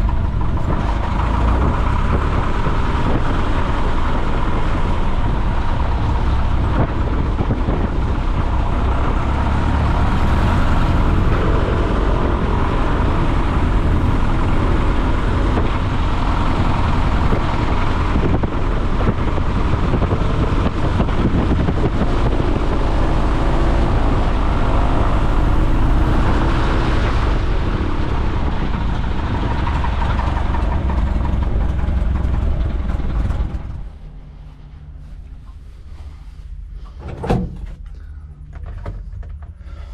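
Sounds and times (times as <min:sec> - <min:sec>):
wind noise: 0:00.0 - 0:37.8
small plane engine and propeller: 0:00.0 - 0:39.9.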